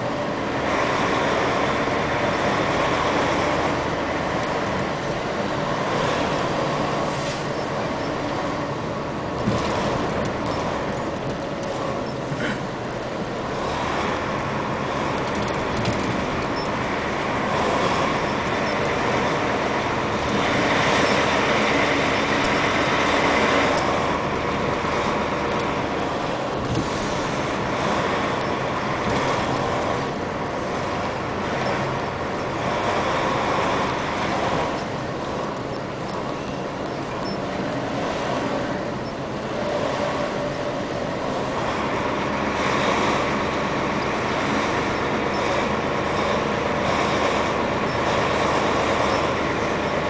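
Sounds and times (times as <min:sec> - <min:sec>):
dump trucks passing: 0:00.0 - 0:50.0
vehicle road and engine noise: 0:00.0 - 0:50.0.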